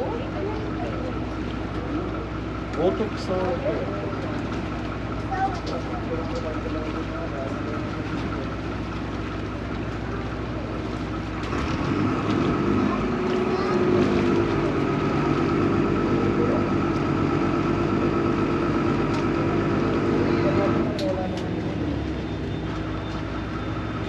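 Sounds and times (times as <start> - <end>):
boat engine running: 0.0 - 24.0
water and hull noise: 0.0 - 24.0.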